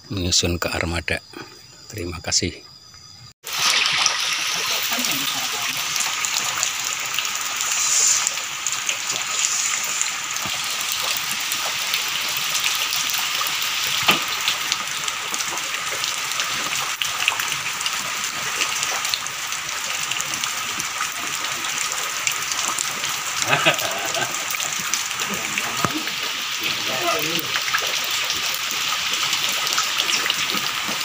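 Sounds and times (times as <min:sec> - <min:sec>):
rain falling: 0:03.4 - 0:31.0.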